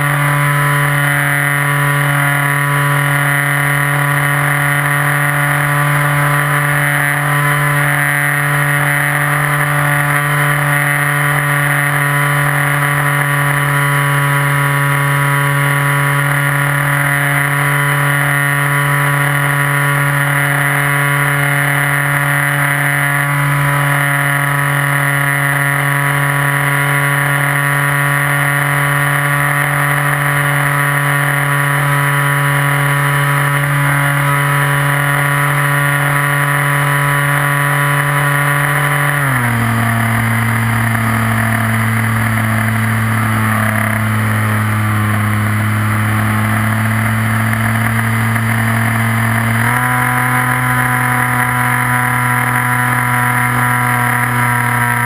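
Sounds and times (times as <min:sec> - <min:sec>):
model plane motor whine: 0:00.0 - 0:55.0.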